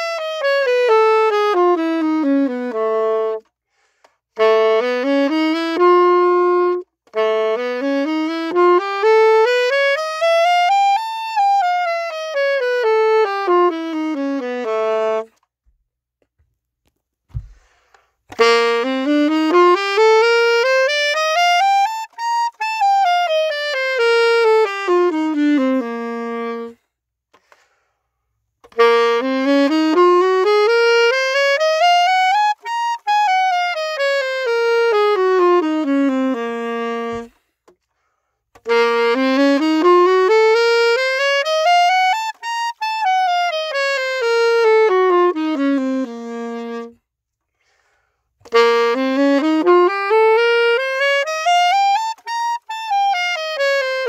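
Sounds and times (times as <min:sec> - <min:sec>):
saxophone playing scales: 0:00.0 - 0:15.7, 0:17.3 - 0:54.0.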